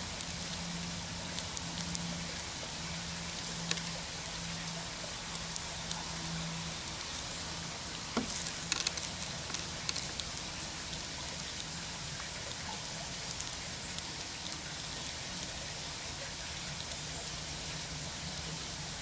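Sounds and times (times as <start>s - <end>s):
squirrel cracking seeds: 0.1s - 18.7s.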